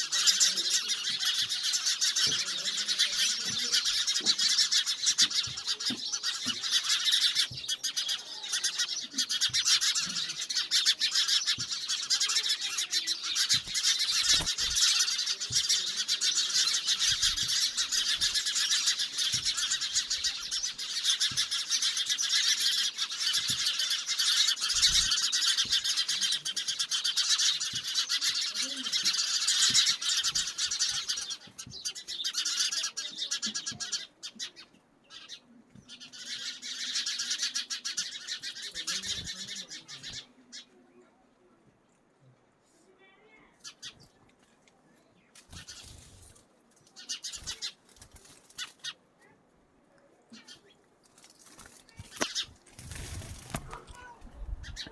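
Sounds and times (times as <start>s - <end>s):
birds chirping and calling: 0.0s - 41.1s, 43.6s - 44.4s, 45.3s - 49.3s, 50.3s - 54.9s.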